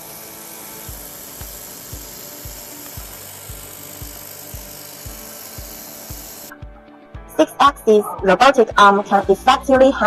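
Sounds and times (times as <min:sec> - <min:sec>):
music with low beat: 0:00.9 - 0:10.0.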